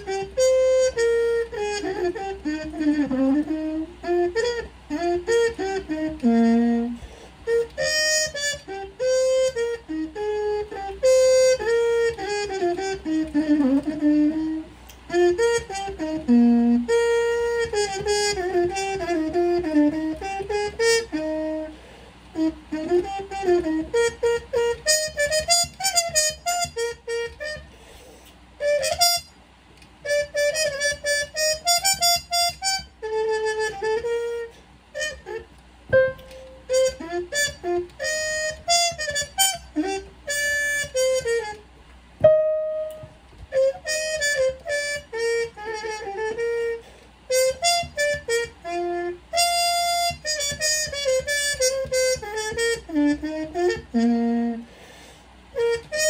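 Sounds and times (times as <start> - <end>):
solo trumpet melody: 0.0 - 29.4, 30.0 - 56.0.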